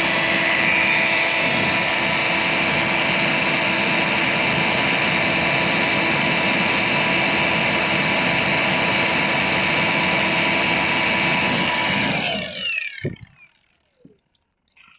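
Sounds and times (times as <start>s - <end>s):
angle grinder whining: 0.0s - 14.2s.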